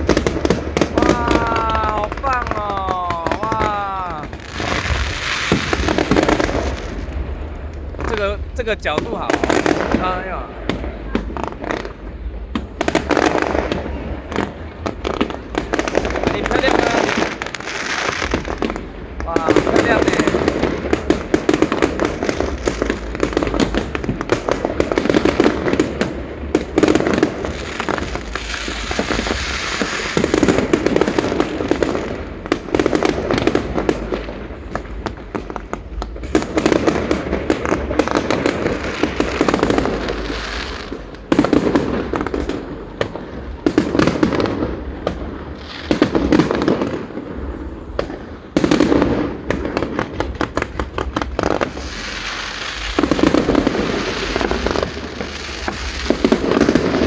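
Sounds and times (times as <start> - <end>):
firework booms: 0.0 - 57.0
fireworks crackling: 0.0 - 57.0.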